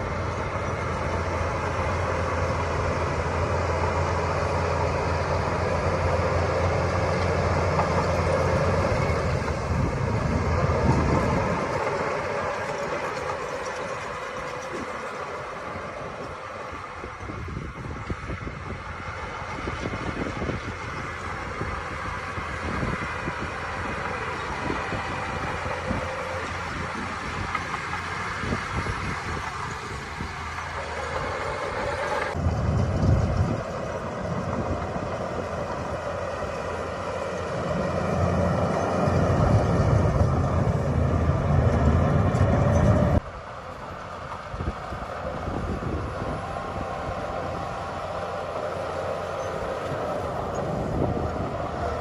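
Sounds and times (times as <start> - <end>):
heavy machinery diesel engines: 0.0 - 52.0.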